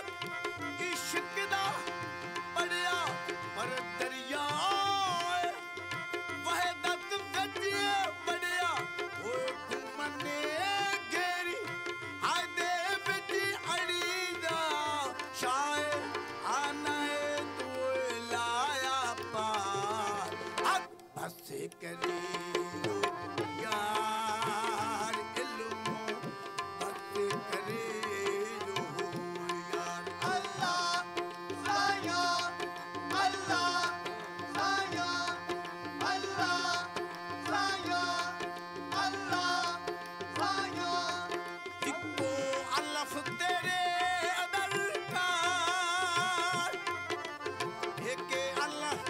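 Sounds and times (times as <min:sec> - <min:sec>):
dholak drum: 0:00.0 - 0:49.0
harmonium notes: 0:00.0 - 0:49.0
tabla drumming: 0:00.0 - 0:49.0.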